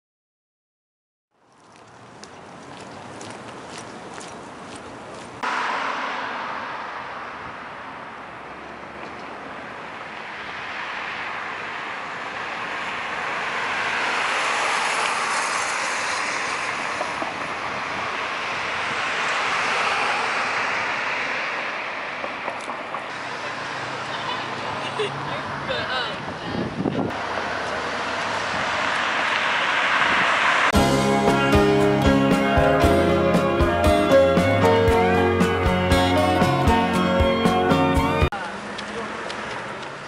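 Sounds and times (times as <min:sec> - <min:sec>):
vehicles passing on street: 0:01.3 - 0:40.0.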